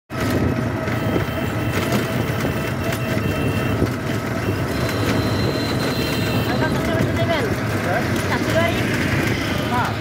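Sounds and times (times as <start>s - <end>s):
vehicle engine and tyres rumbling: 0.1s - 10.0s.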